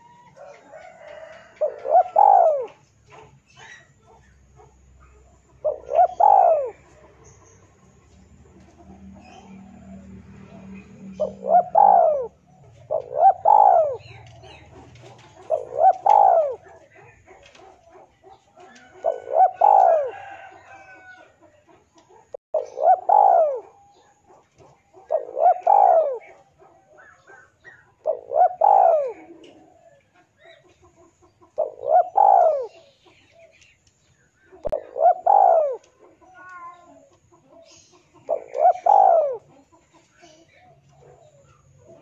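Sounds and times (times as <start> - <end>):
dove cooing: 0.0 - 33.5, 34.4 - 42.0.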